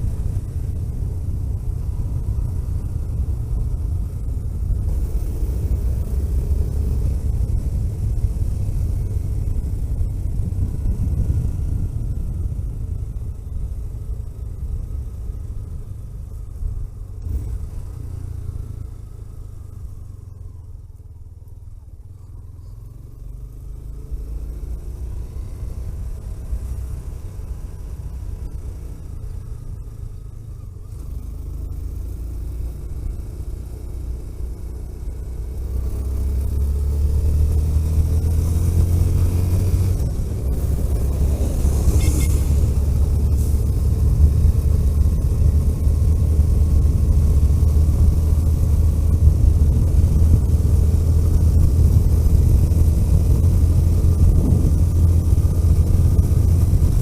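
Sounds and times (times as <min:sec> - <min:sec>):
car engine: 0:00.0 - 0:57.0
road rumble: 0:00.0 - 0:57.0.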